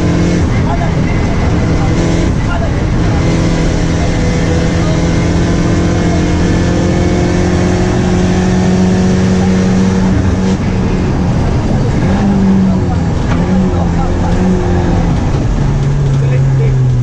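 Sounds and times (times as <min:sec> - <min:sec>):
car engine at high revs: 0:00.0 - 0:17.0
road and wind noise: 0:00.0 - 0:17.0.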